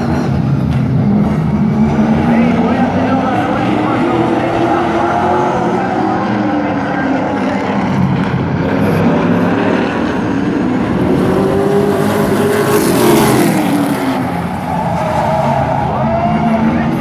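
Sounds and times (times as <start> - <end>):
race truck engines racing: 0.0 - 17.0
truck passing by: 0.0 - 17.0.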